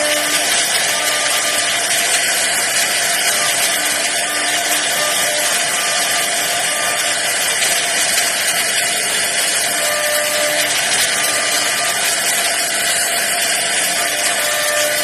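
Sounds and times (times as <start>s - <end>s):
router bit cutting wood: 0.0s - 15.0s.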